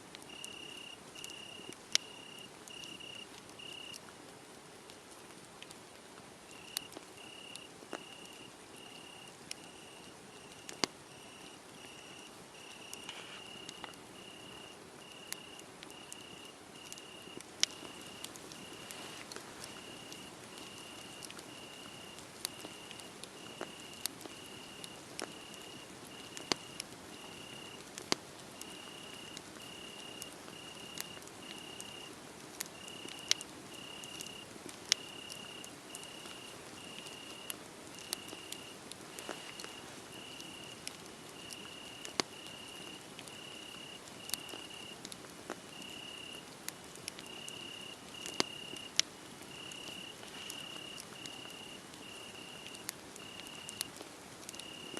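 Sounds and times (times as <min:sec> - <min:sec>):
wood fire crackling: 0:00.1 - 0:54.9
cricket chirping: 0:00.3 - 0:04.0, 0:06.5 - 0:27.8, 0:28.6 - 0:32.1, 0:32.8 - 0:45.0, 0:45.7 - 0:46.4, 0:47.2 - 0:53.9, 0:54.5 - 0:54.9.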